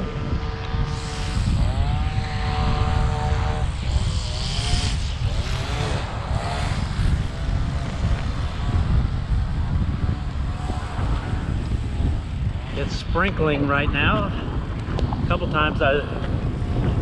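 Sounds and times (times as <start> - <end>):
engine-like hum: 0.0 - 17.0
wind rushing over microphone: 0.0 - 17.0.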